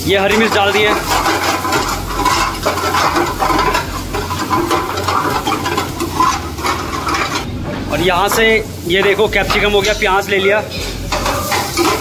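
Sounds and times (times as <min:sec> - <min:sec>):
garlic sizzling in hot oil: 0:00.0 - 0:12.0
metal ladle scraping pan: 0:00.0 - 0:12.0.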